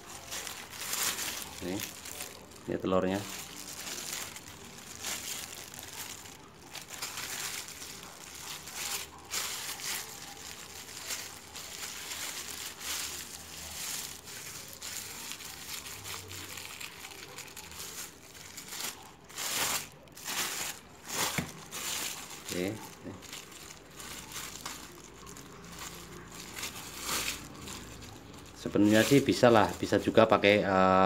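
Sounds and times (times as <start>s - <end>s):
plastic bag crinkling: 0.0s - 30.4s.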